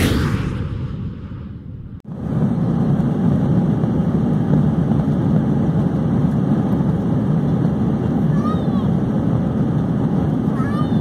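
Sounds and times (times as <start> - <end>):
airplane engine hum in cabin: 1.8 - 11.0.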